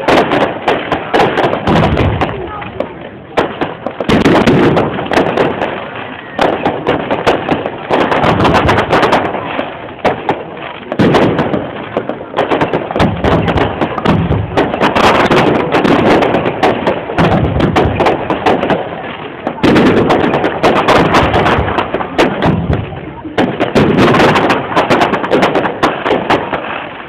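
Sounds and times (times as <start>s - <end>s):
fireworks bangs and pops: 0.0s - 27.0s.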